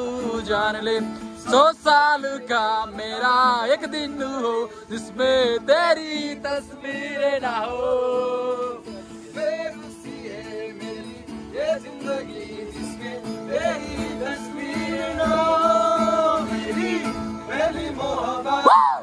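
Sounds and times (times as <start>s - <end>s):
acoustic guitar strumming: 0.0s - 18.9s
man singing: 0.0s - 19.0s.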